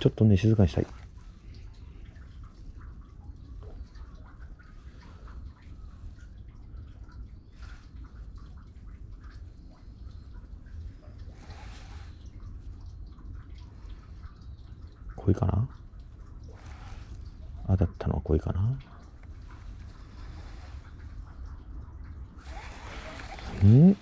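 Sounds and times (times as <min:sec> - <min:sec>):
water drips and splashes: 0:00.0 - 0:24.0.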